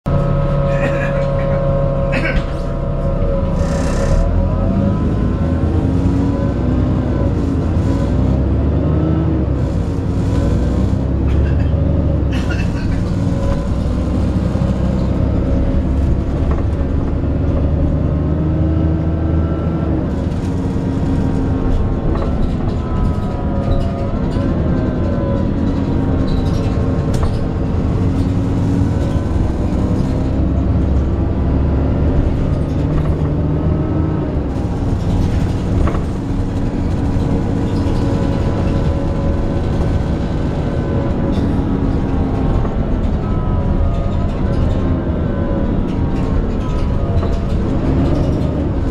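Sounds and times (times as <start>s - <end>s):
bus engine groaning: 0.0s - 48.9s.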